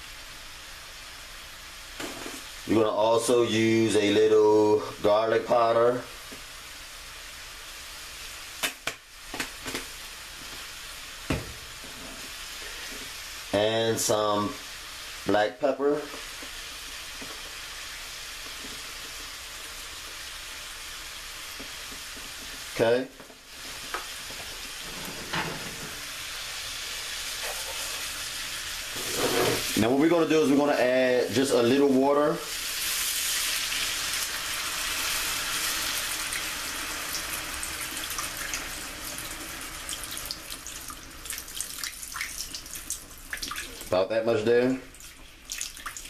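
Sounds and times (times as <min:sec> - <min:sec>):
meat sizzling in a frying pan: 0:00.0 - 0:46.0.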